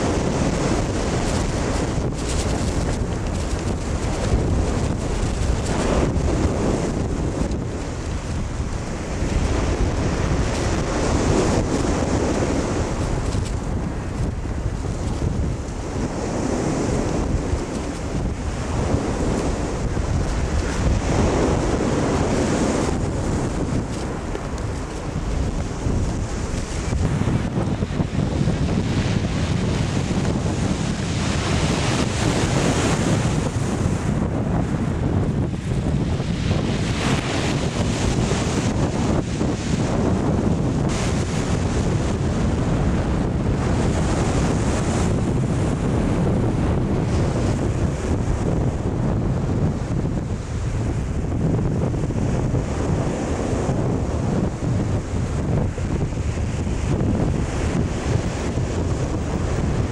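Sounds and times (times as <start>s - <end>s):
waves on shingle beach: 0.0s - 59.9s
wind buffeting microphone: 0.0s - 59.9s.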